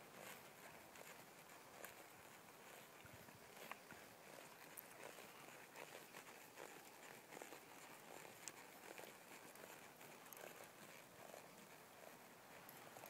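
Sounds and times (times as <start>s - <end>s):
hoofbeats on soft dirt: 0.0s - 13.0s.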